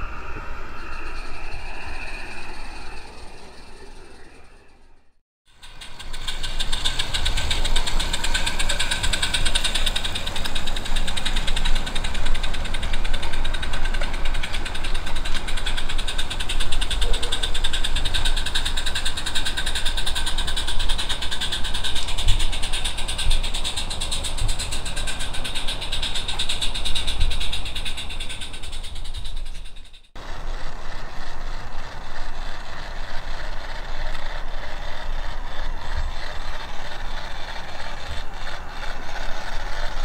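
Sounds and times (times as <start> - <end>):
steam locomotive chuffing: 0.0 - 40.0.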